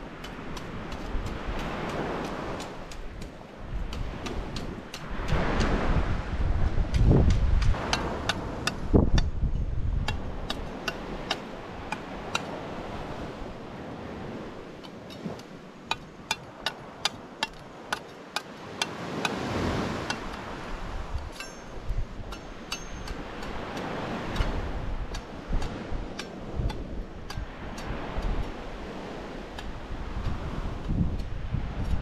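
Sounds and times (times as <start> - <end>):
surf: 0.0 - 32.0
wind gusting on microphone: 0.0 - 32.0.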